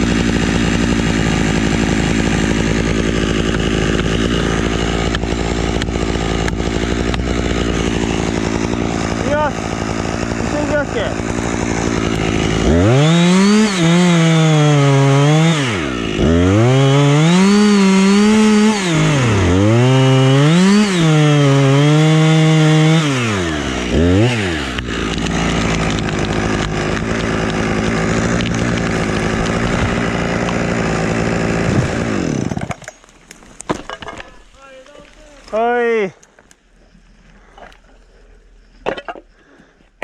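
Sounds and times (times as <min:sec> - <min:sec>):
chainsaw revving and idling: 0:00.0 - 0:33.1.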